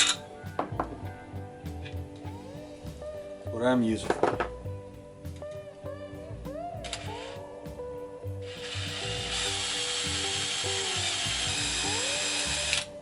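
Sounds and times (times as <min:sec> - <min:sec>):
guitar music: 0:00.0 - 0:13.0.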